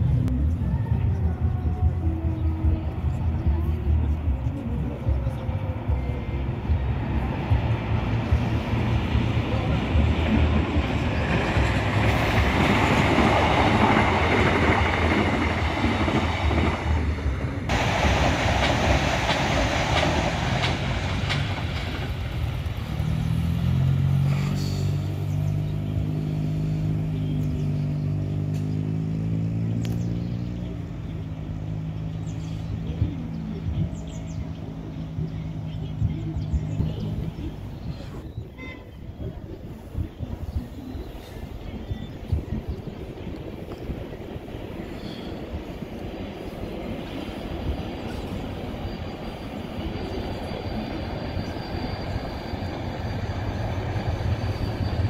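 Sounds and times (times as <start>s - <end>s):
low train hum: 0.0s - 55.0s
train wheels rushing on rails: 0.1s - 28.7s, 30.9s - 55.0s.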